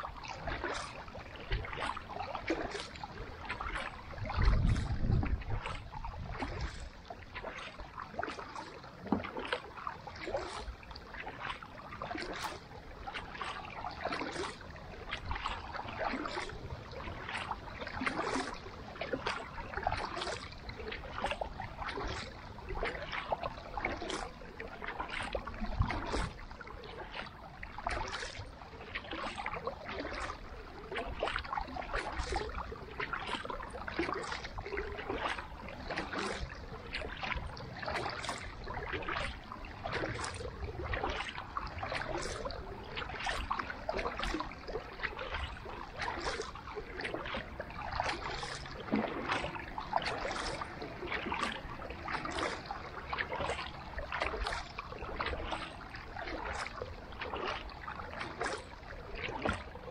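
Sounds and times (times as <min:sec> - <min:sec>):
paddle blades dipping into water: 0:00.0 - 0:59.9
small splashes and drips: 0:00.0 - 0:59.9.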